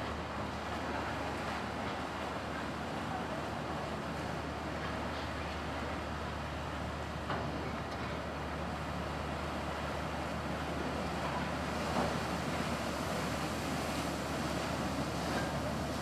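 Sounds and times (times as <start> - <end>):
paddle wheels churning water: 0.0 - 16.0.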